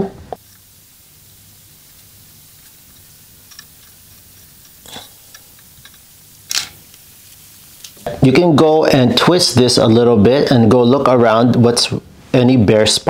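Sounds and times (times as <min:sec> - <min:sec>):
solder sizzling and crackling: 0:00.3 - 0:10.8.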